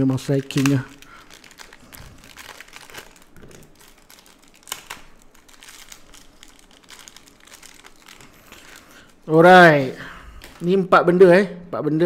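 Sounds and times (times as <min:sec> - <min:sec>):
plastic bags crinkling: 0:00.0 - 0:10.7.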